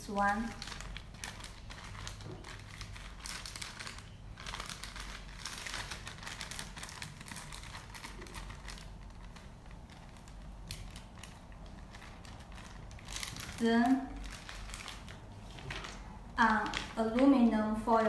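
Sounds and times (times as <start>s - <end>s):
plastic bags rustling: 0.1s - 18.0s.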